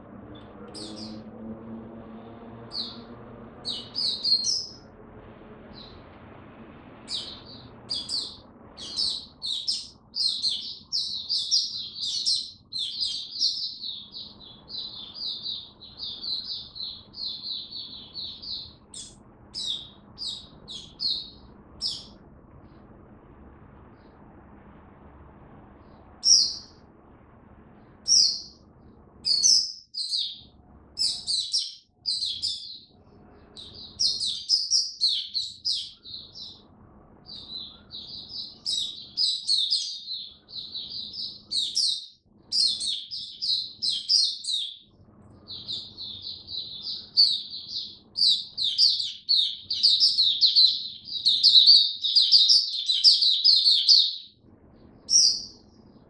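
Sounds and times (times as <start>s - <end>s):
bird chirping and warbling: 0.0s - 56.0s.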